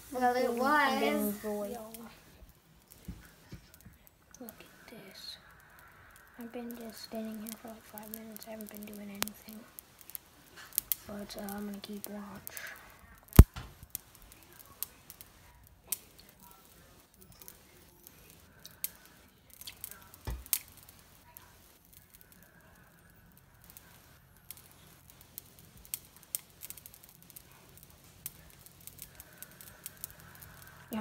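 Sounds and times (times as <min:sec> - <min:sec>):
water beads popping in hot pan: 0:00.0 - 0:31.0.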